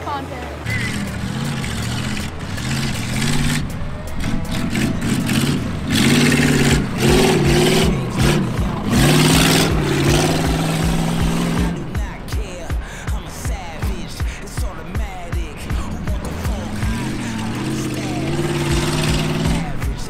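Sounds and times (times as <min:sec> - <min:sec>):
loud rush of noise: 0:00.0 - 0:20.0
truck engine revving: 0:00.0 - 0:20.0.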